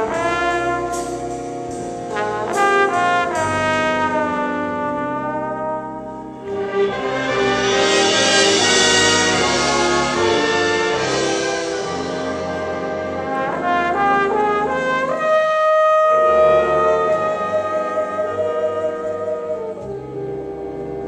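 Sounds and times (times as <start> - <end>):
jazz band playing: 0.0 - 21.0
trombone solo: 0.0 - 21.0.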